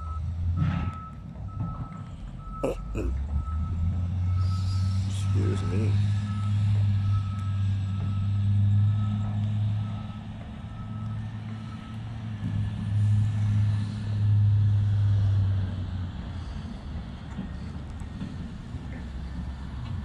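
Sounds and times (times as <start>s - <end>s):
diesel engine running: 2.4s - 20.0s.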